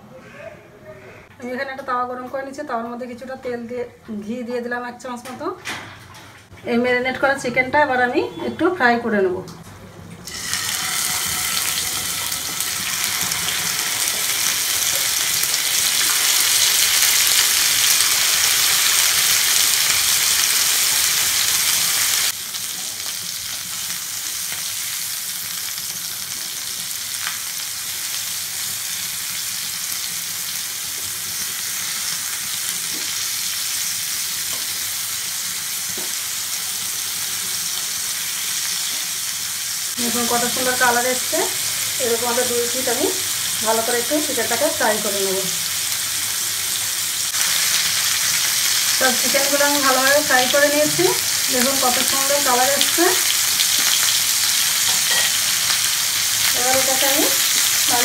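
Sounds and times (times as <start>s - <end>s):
chicken sizzling in oil: 10.3s - 58.0s.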